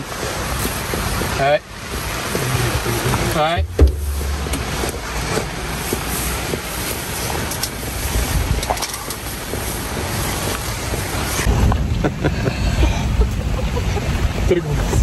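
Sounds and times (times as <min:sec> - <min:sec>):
vehicle engine rumble: 0:00.0 - 0:15.0
wind buffeting microphone: 0:00.0 - 0:15.0.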